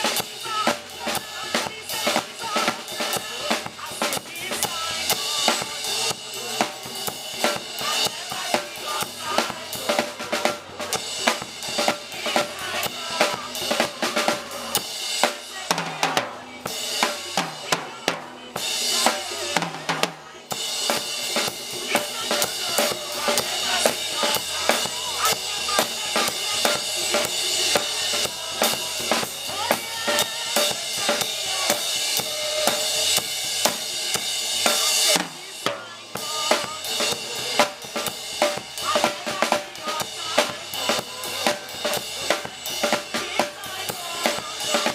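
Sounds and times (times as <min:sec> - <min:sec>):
church band music: 0:00.0 - 0:44.9
drum kit beat: 0:00.0 - 0:44.9.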